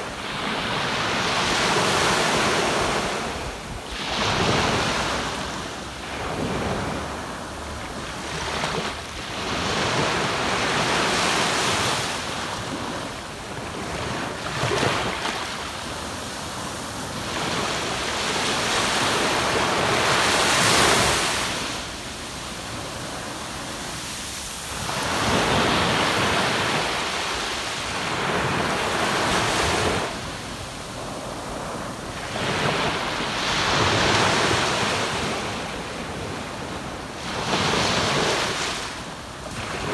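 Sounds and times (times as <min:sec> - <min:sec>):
surf washing up a beach: 0:00.0 - 0:39.9.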